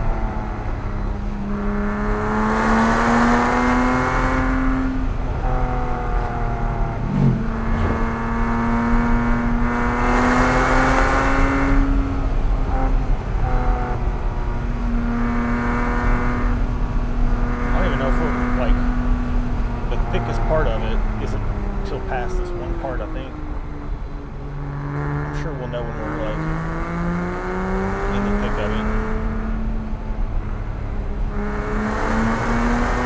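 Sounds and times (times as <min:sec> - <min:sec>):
sports car engine accelerating: 0:00.0 - 0:33.0.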